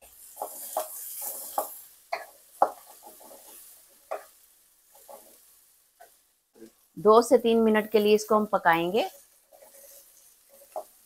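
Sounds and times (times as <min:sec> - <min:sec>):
wooden spatula scraping pan: 0:00.0 - 0:06.8, 0:08.7 - 0:11.0
vegetables sizzling in oil: 0:00.0 - 0:11.0.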